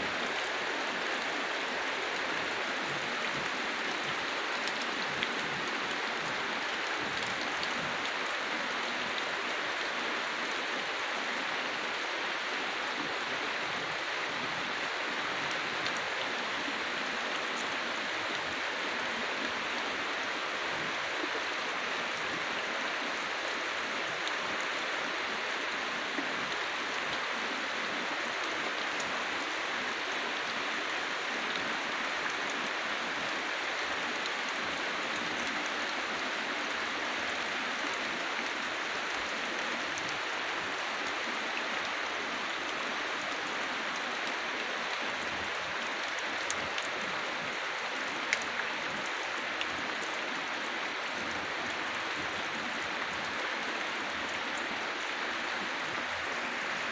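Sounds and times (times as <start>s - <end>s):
rain falling on foliage: 0.0s - 56.9s.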